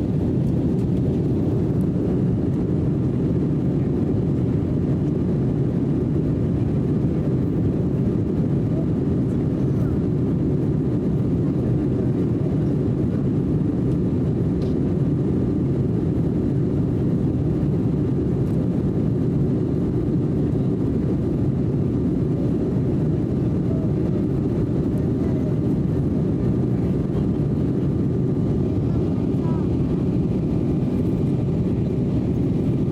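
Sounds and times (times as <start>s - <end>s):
jet airliner cabin rumble: 0.0s - 32.9s.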